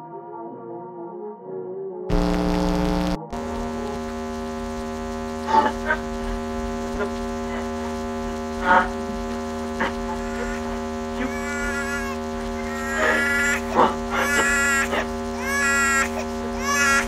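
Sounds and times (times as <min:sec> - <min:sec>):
steady droning tone: 0:02.1 - 0:17.0.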